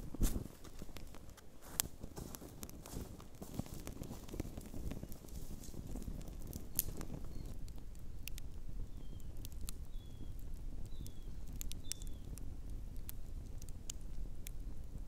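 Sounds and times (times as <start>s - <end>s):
sharp clicks and crackles: 0.0s - 15.0s.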